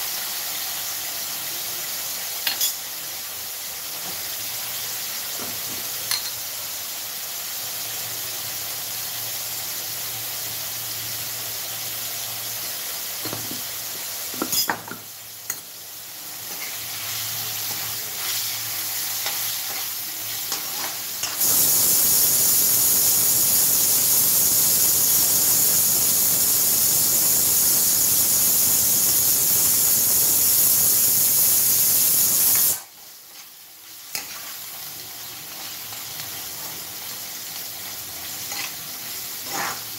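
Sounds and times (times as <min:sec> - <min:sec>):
harsh hiss: 0:00.0 - 0:33.0
vegetables sizzling in hot oil: 0:00.0 - 0:39.9.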